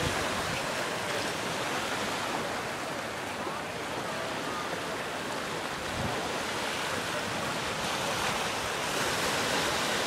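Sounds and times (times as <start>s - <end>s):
ocean surf over rocks: 0.0s - 10.0s.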